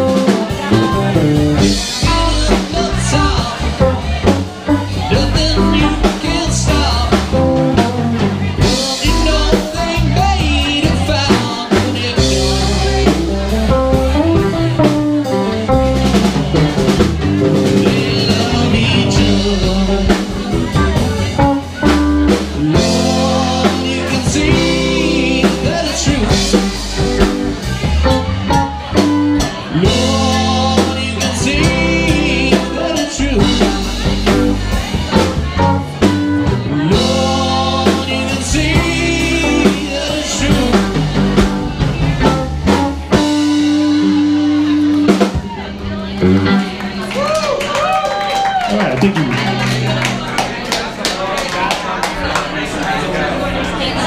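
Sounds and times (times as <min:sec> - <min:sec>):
drum kit: 0:00.0 - 0:50.9
electric guitars: 0:00.0 - 0:51.6
bass guitar: 0:00.0 - 0:54.0.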